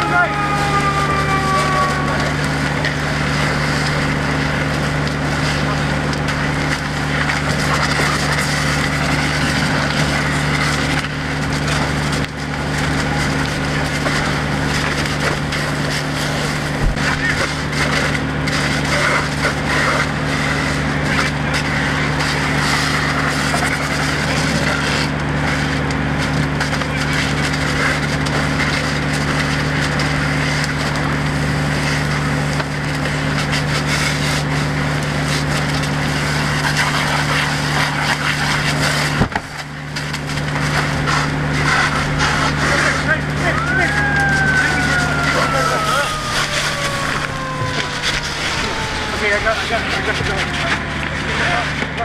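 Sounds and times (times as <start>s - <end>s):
engine humming: 0.0s - 52.0s
fire crackling and popping: 0.0s - 52.0s.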